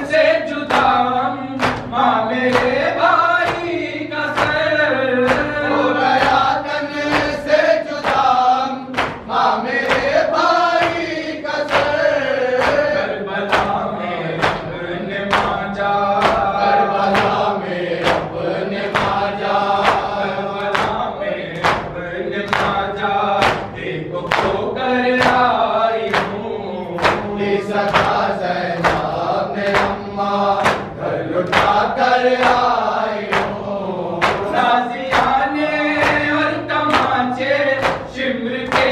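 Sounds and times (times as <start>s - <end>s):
men chanting together: 0.0s - 38.9s
rhythmic chest-beating slaps: 0.0s - 38.9s.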